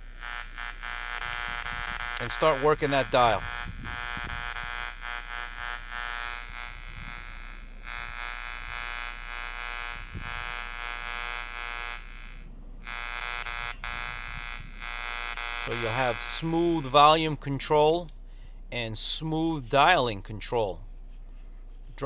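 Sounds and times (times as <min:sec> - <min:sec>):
electrical buzz: 0:00.0 - 0:21.1.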